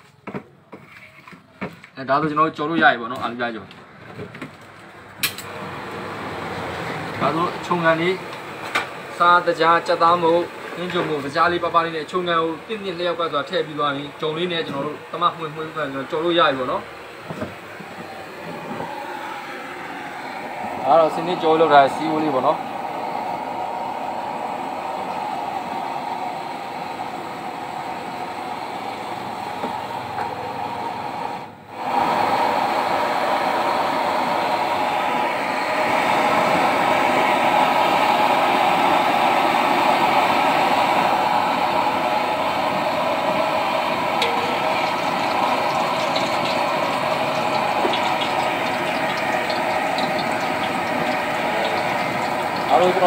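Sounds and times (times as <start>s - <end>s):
gas burner rushing: 5.2s - 53.0s.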